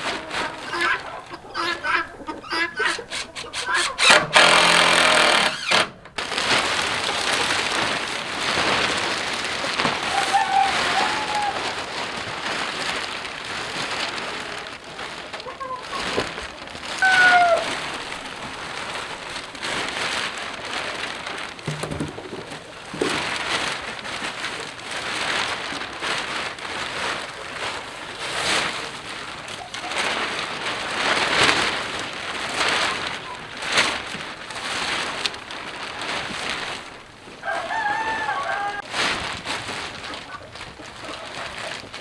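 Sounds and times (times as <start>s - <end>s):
plastic sheeting rustling: 0.0s - 42.0s.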